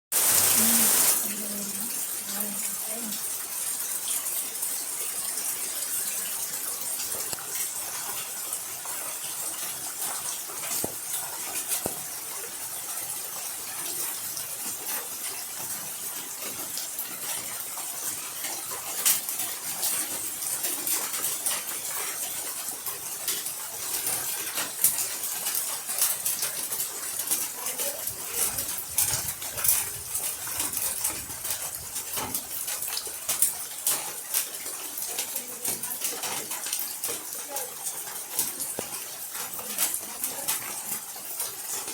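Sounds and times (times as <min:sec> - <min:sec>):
rain hissing: 0:00.1 - 0:41.9
drips on hard surfaces: 0:00.2 - 0:41.9.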